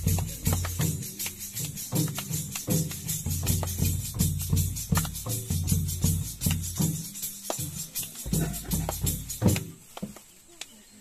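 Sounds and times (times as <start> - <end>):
folk drum and jingling percussion: 0.0 - 10.4.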